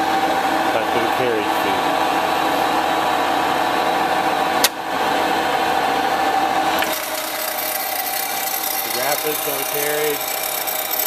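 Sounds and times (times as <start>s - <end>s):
lathe humming with whine: 0.0s - 11.0s.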